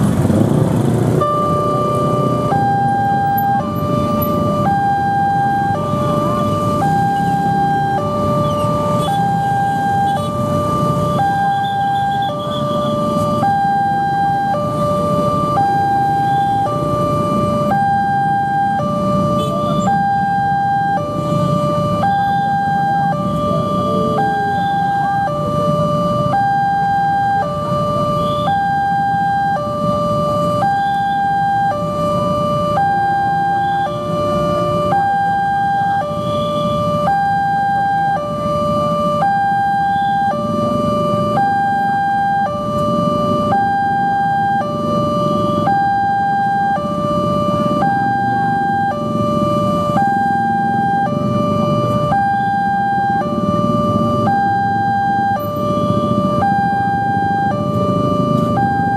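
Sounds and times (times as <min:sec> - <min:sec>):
low traffic rumble: 0:00.0 - 0:58.9
level crossing alarm two-tone: 0:01.1 - 0:58.9.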